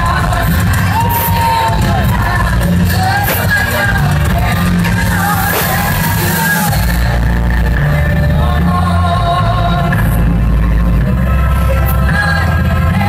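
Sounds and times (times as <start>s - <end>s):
woman singing into a microphone: 0.0s - 10.3s, 11.5s - 13.0s
amplified pop music with bass: 0.0s - 13.0s.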